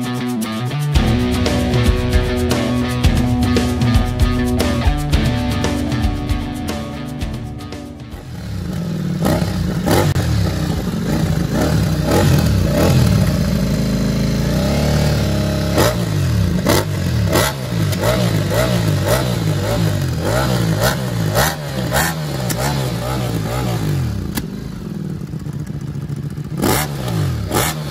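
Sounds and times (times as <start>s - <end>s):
exhaust cracks: 0.7s - 27.9s
motorcycle engine revving: 0.9s - 27.9s.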